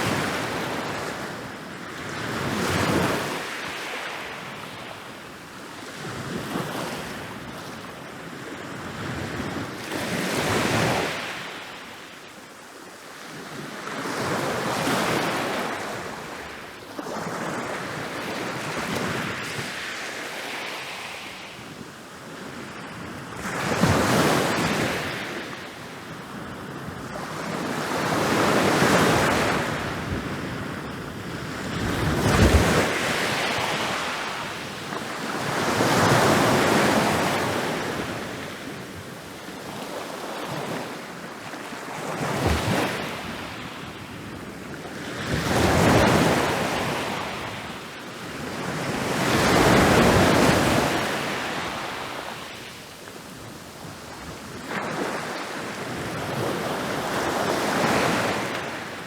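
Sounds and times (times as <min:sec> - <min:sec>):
waves crashing on a beach: 0:00.0 - 0:59.0.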